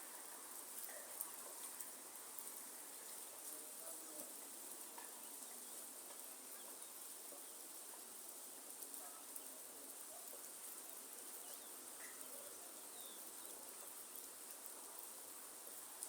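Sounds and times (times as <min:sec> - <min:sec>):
soft rain hiss: 0:00.0 - 0:16.0.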